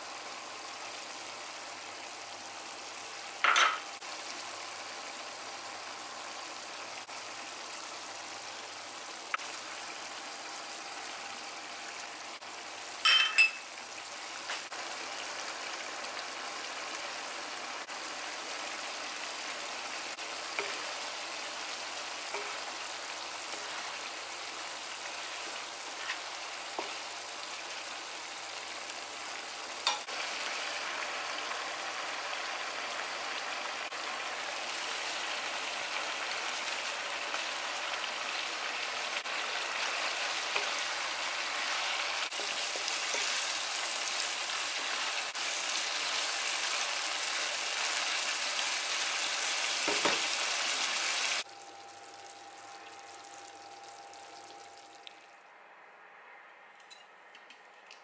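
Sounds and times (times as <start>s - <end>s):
meat sizzling in a wok: 0.0s - 51.5s.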